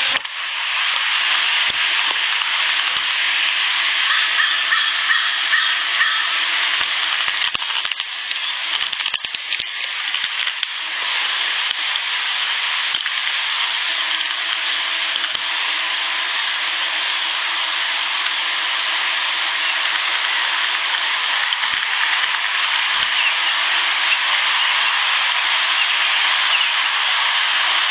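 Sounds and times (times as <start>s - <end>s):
steady high hiss: 0.0s - 27.9s.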